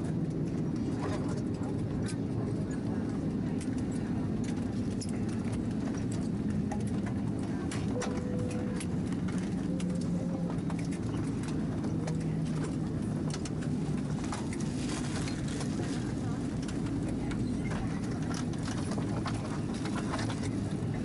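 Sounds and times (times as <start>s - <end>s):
aircraft cabin hum: 0.0s - 21.0s.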